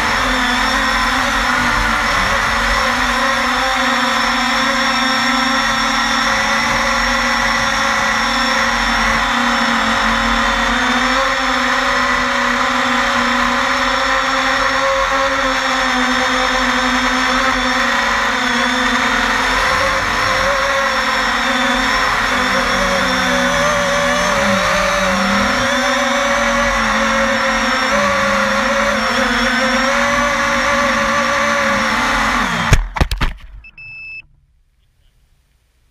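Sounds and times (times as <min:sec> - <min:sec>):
quadcopter motors whining: 0:00.0 - 0:33.2.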